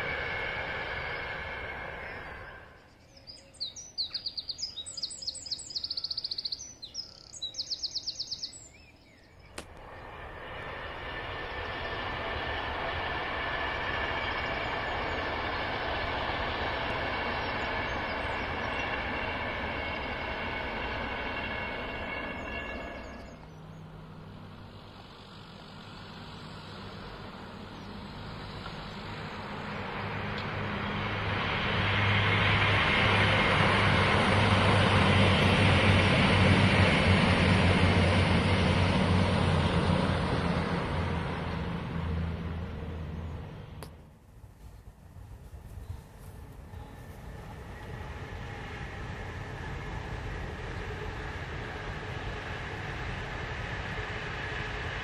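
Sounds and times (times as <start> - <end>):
low diesel train hum: 0.0 - 55.0
train wheels rushing on rails: 0.0 - 55.0.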